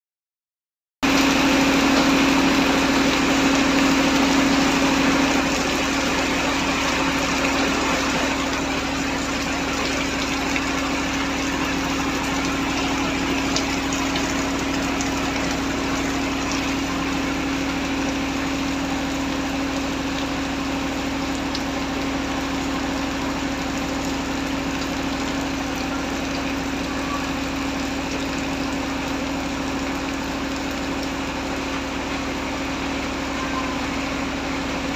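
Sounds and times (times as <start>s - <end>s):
heavy rain falling: 1.0s - 34.9s
constant low hum: 1.1s - 34.9s.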